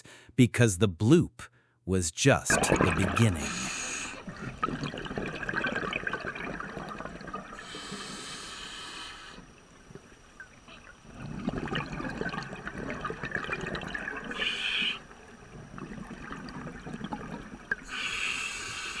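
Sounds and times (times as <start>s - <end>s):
water bubbling and gurgling: 2.5s - 19.0s.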